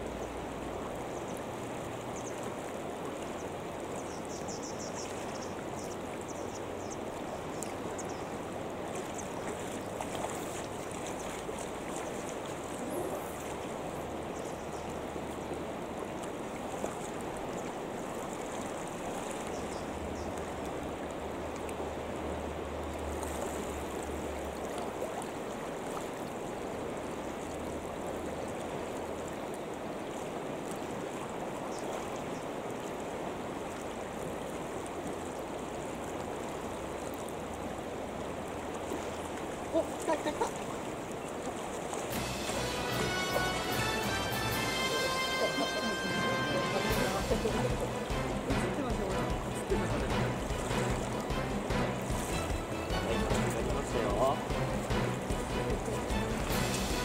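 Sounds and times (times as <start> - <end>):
river rushing: 0.0 - 57.0.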